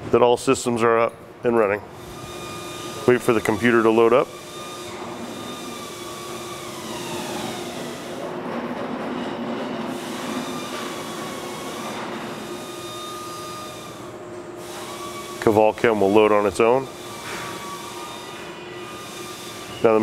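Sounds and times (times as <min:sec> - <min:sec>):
machinery hum and hiss: 0:00.0 - 0:20.0
motor whine: 0:01.9 - 0:08.5, 0:09.2 - 0:20.0.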